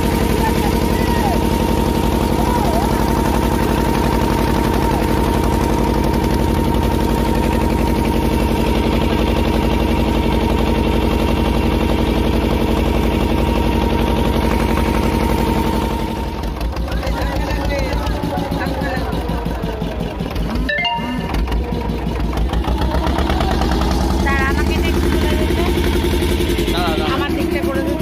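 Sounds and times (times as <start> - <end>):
boat engine running: 0.0 - 28.0
steady engine whine: 0.0 - 28.0.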